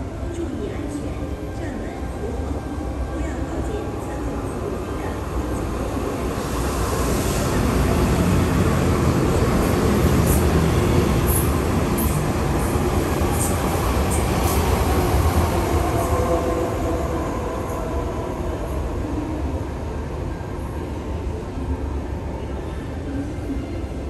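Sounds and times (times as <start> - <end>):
train rumbling past: 2.9 - 22.8.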